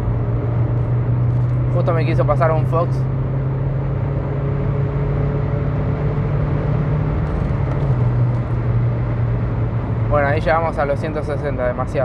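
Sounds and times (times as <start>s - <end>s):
car engine accelerating: 0.0s - 11.3s
road noise: 0.0s - 12.0s.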